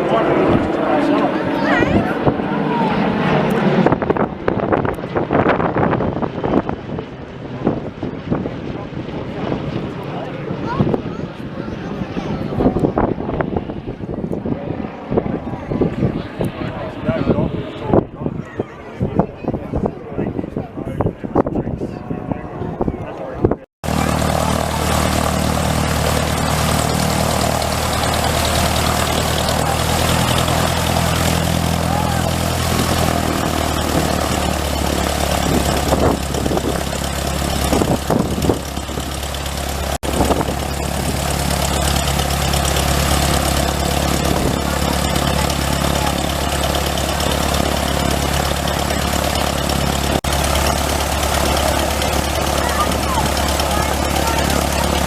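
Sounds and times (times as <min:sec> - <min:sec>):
aircraft engine idling: 0:00.0 - 0:17.4, 0:23.8 - 0:55.0.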